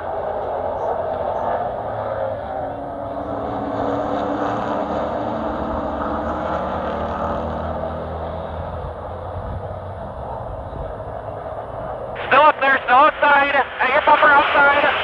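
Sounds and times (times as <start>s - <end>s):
truck engine running at speed: 0.0s - 15.0s.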